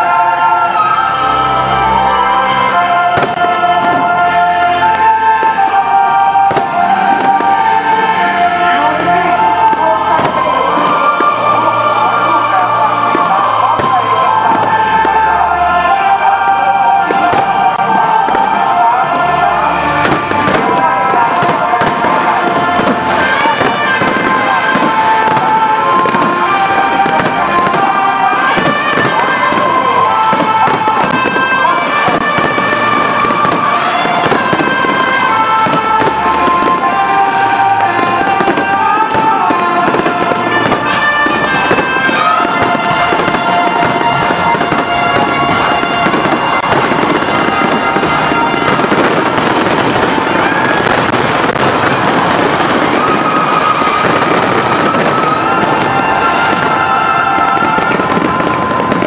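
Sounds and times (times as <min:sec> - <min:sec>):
fireworks bursting and crackling: 0:00.0 - 0:59.0
music playing: 0:00.0 - 0:59.0.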